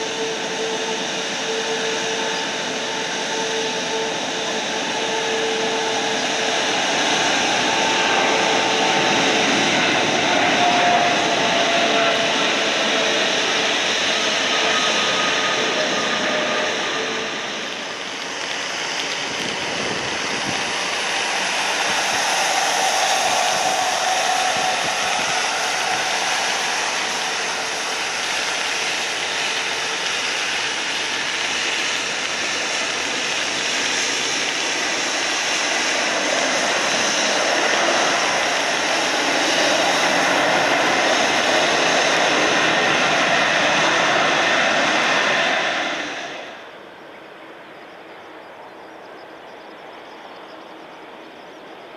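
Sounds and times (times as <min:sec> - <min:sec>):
jet engines roaring: 0:00.0 - 0:51.9.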